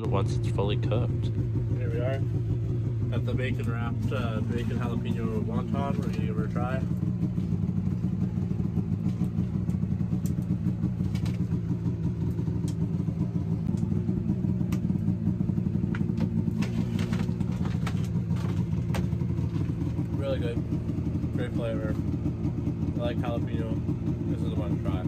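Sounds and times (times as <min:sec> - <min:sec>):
engine humming steadily: 0:00.0 - 0:25.0.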